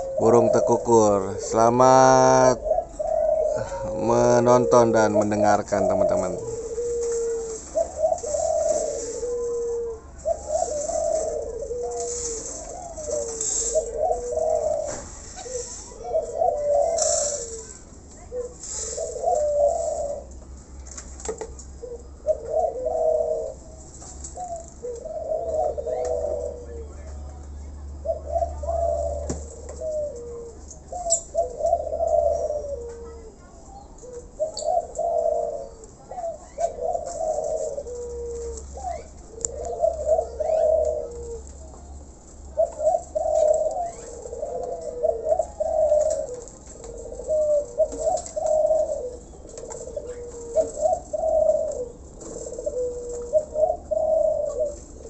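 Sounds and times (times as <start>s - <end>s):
doves cooing: 0.0s - 55.0s
small birds chirping: 0.0s - 55.0s.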